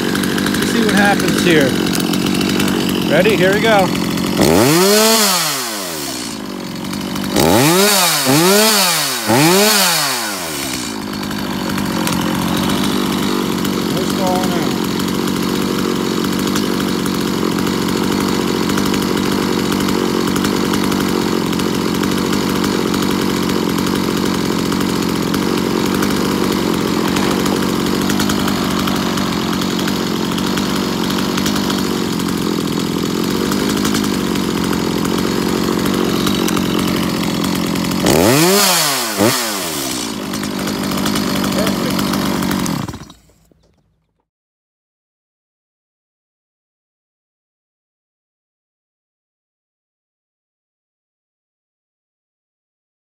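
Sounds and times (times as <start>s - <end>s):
chainsaw revving: 0.0s - 43.7s
chainsaw idling: 0.0s - 44.2s.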